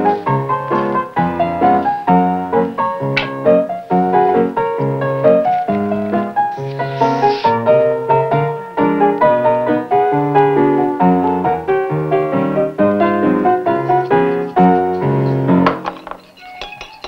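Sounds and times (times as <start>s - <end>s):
brisk piano tune: 0.0s - 17.0s.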